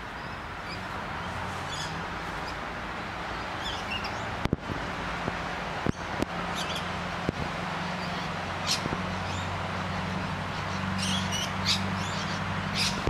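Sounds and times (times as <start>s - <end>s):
birds calling: 0.0s - 4.4s, 5.8s - 13.0s.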